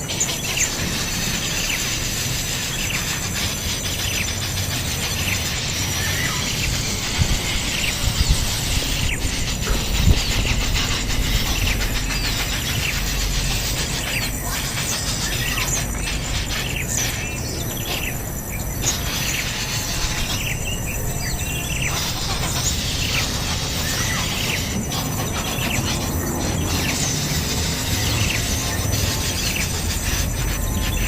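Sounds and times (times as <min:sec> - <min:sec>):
bird chirps: 0:00.0 - 0:31.0
high insect drone: 0:00.0 - 0:31.0.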